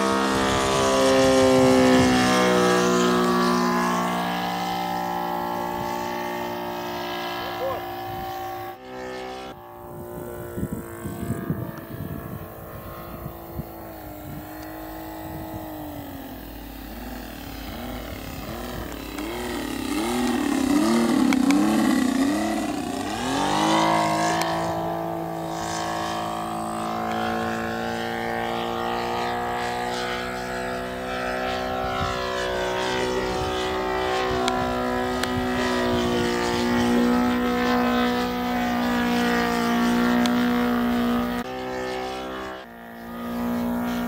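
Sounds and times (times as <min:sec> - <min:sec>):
model plane engine running: 0:00.0 - 0:44.0.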